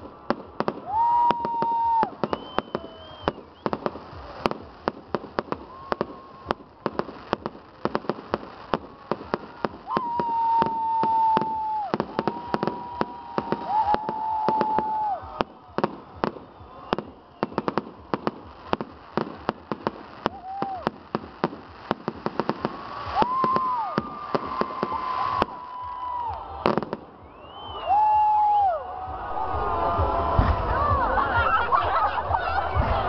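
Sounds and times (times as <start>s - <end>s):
fireworks bangs and crackling: 0.0s - 28.6s, 29.2s - 33.0s
firework whistles: 0.0s - 28.7s.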